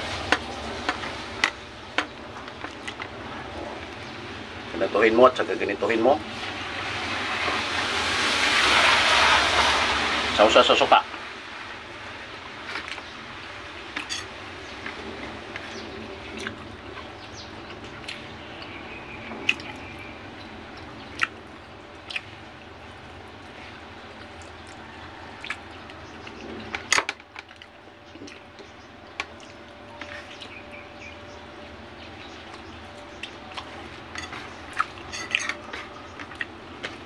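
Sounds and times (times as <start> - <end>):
steady background noise: 0.0 - 37.0.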